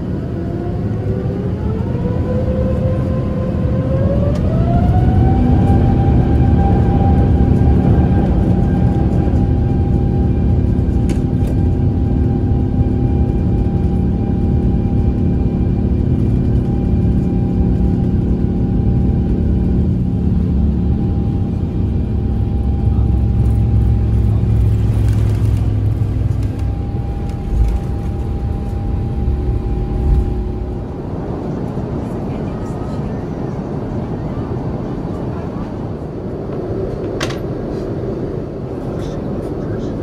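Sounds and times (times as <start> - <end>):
jet engines at takeoff power: 0.0 - 40.0
runway roll rumble: 0.0 - 40.0.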